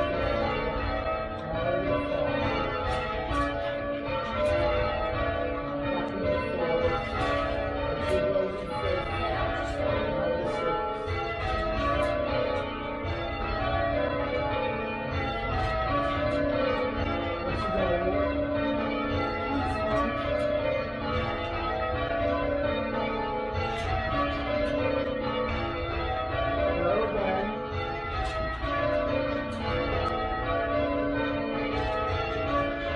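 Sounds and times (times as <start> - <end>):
church bells change ringing: 0.0 - 32.9.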